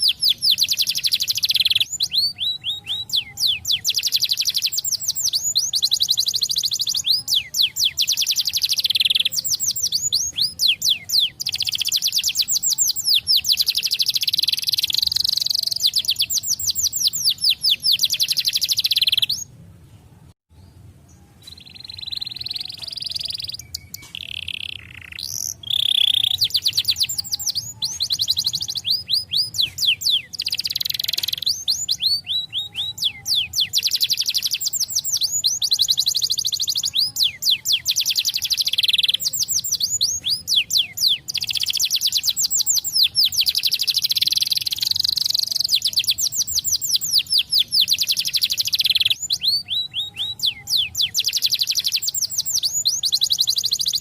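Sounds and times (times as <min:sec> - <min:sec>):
canary singing trills: 0:00.0 - 0:19.6, 0:20.5 - 0:54.0.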